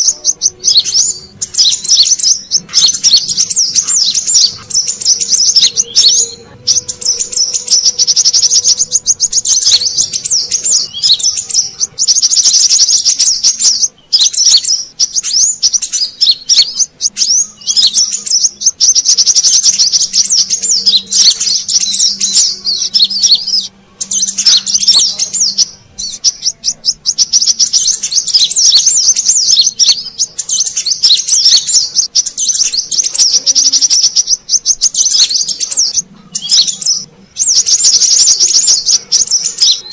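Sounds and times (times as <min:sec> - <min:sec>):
sunbird twittering: 0:00.0 - 0:39.9.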